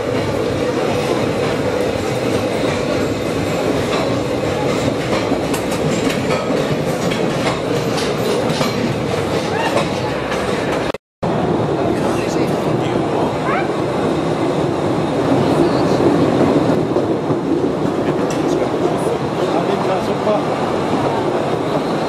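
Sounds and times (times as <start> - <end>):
rumble of train wheels on rails: 0.0 - 22.0.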